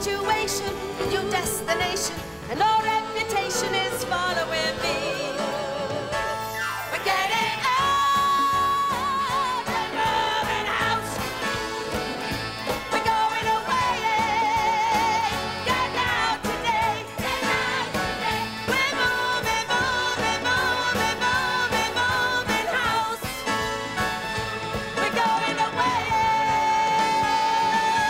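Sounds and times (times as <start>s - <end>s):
voices singing with vibrato: 0.0s - 23.8s, 24.8s - 28.0s
orchestral backing: 0.0s - 28.0s.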